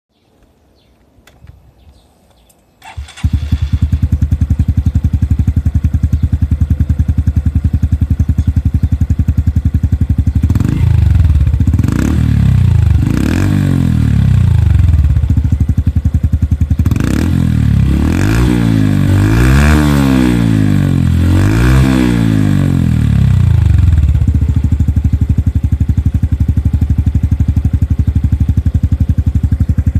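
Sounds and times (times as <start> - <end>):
motorcycle engine revving: 2.8 - 29.9
motorcycle engine starting and idling: 2.8 - 29.9.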